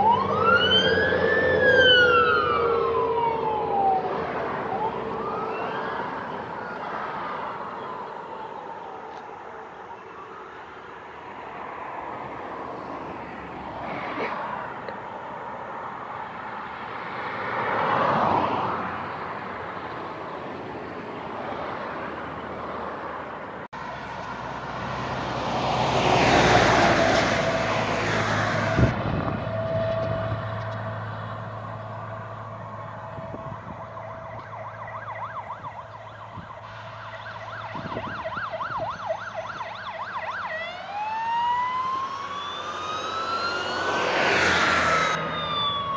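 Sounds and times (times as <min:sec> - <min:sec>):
loud vehicle passing: 0:00.0 - 0:08.5, 0:11.2 - 0:45.9
fire engine sirens: 0:00.0 - 0:14.9, 0:23.8 - 0:45.9
cars passing: 0:00.0 - 0:45.9.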